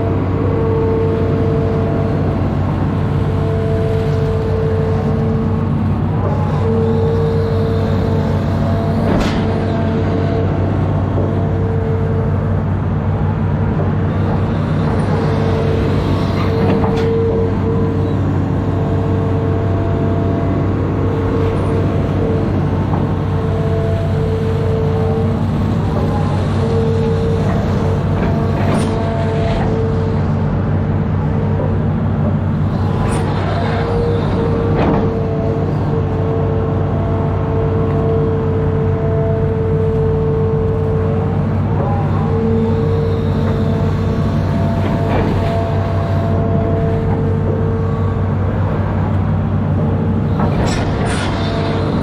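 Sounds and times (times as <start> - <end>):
diesel engine droning: 0.0 - 52.0.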